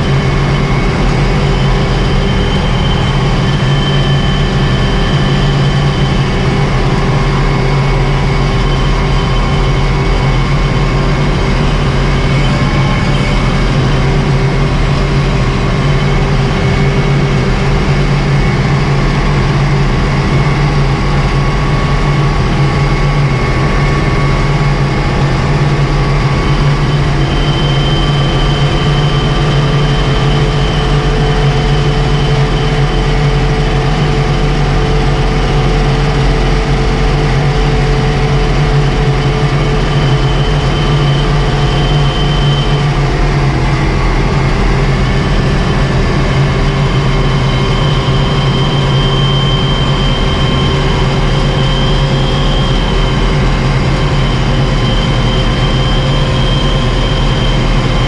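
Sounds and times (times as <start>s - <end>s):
tractor diesel engine hum: 0.0s - 58.0s.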